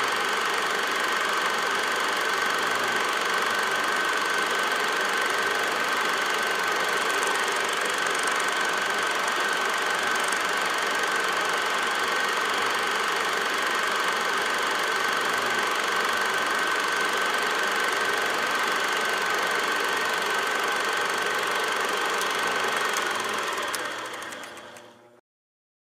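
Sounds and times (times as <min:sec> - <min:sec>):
film projector clattering: 0:00.0 - 0:25.2.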